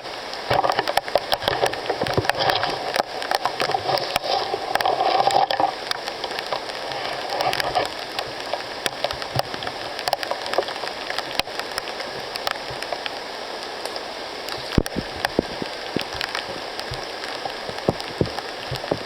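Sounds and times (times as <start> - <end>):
rain through forest canopy: 0.0 - 19.0
drops ticking on leaves: 0.3 - 19.0.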